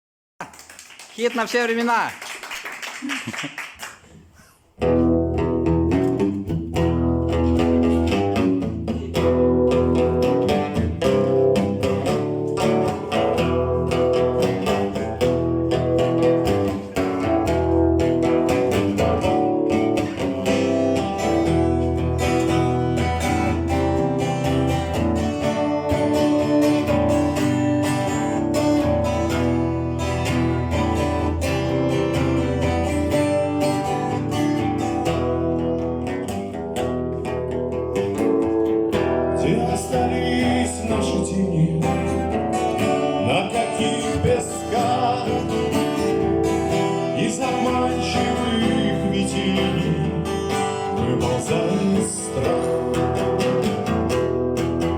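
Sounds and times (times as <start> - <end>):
strummed guitar: 4.8 - 54.9.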